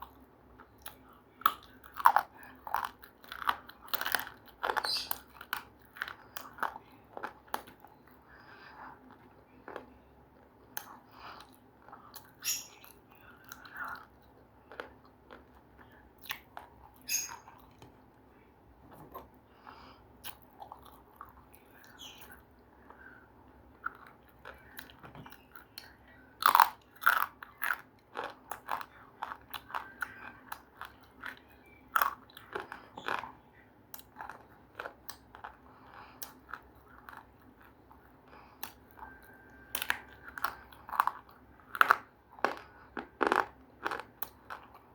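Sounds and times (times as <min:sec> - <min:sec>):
person chewing crunchy food: 0:00.0 - 0:17.9, 0:19.1 - 0:44.9.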